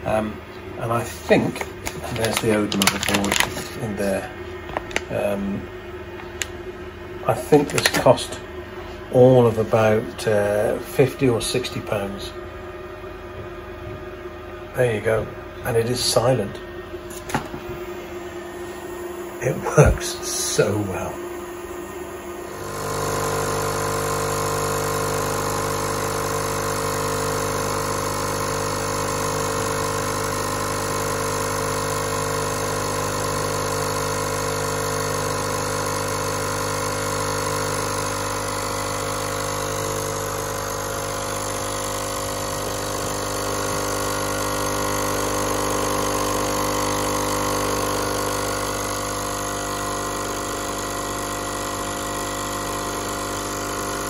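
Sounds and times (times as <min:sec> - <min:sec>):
espresso machine pump humming: 0:00.8 - 0:54.0.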